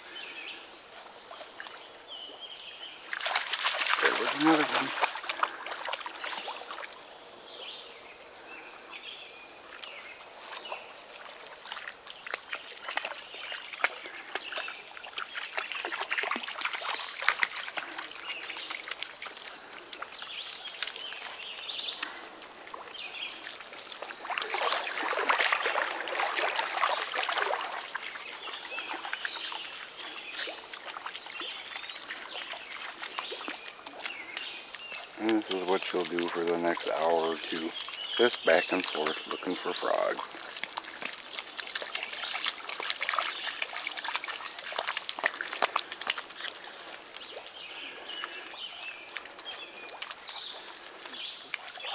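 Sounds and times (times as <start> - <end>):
birds calling: 0.0 - 51.9
dog splashing through water: 1.2 - 7.0, 9.7 - 51.9.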